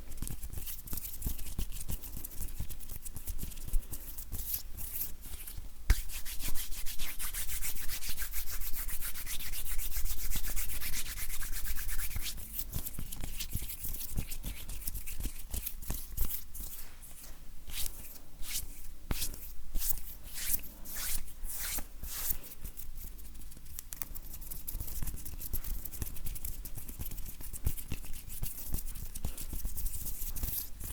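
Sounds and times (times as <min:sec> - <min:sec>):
hands rubbing together: 0:03.5 - 0:30.7.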